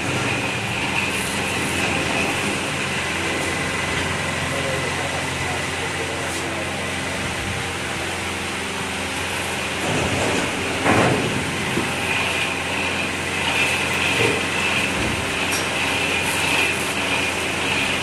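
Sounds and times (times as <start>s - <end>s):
printing machine hum and hiss: 0.0s - 18.0s
steady high whine: 0.0s - 18.0s.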